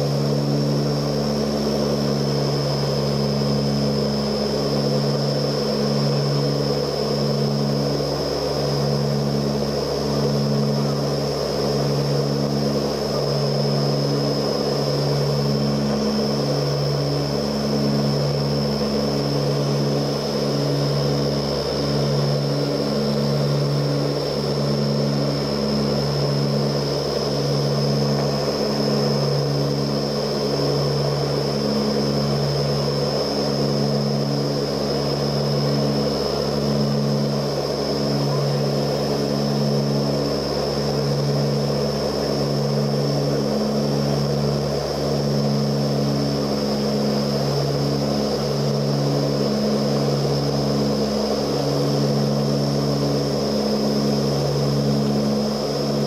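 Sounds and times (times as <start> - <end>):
high engine whine: 0.0 - 56.0
turboprop engines droning: 0.0 - 56.0.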